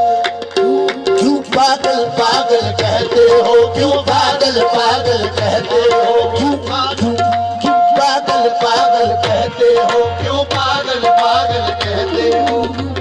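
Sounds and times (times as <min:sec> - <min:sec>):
tabla playing a quick rhythm: 0:00.0 - 0:13.0.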